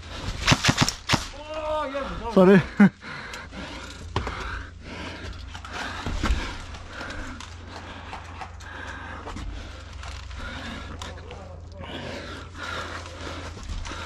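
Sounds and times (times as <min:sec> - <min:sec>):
person panting heavily: 0:02.0 - 0:14.0.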